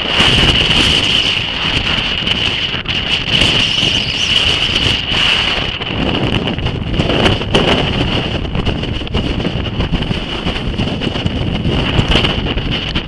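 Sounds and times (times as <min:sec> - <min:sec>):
high-pitched whine: 0:00.0 - 0:10.6
wind buffeting microphone: 0:00.0 - 0:13.0.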